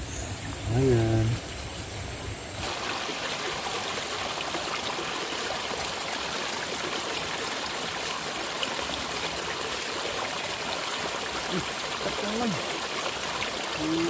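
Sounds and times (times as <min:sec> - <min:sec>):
water running along a ditch: 0:00.0 - 0:14.0.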